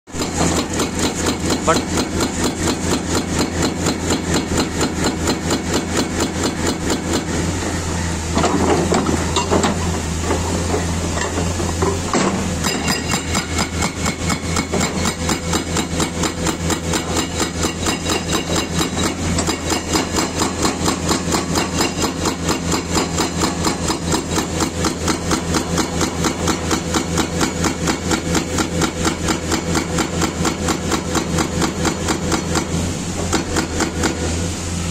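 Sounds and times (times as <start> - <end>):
hydraulic breaker hammering ground: 0.1 - 7.4, 8.3 - 34.4
diesel engine running: 0.2 - 34.9.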